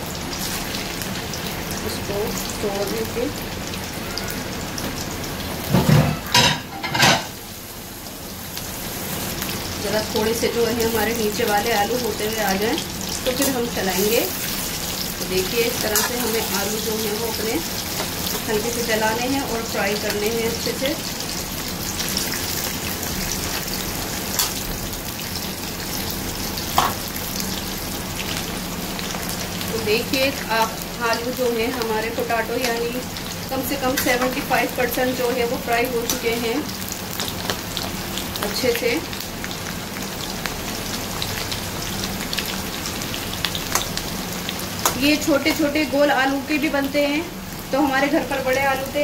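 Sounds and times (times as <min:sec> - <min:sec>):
potatoes sizzling in oil: 0:00.0 - 0:49.0.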